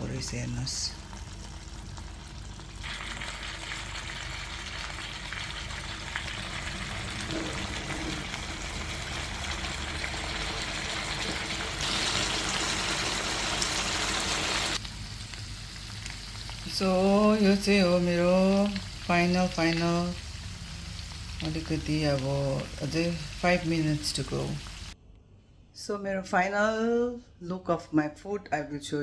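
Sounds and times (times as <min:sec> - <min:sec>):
ribs sizzling in a pan: 0:00.2 - 0:25.0.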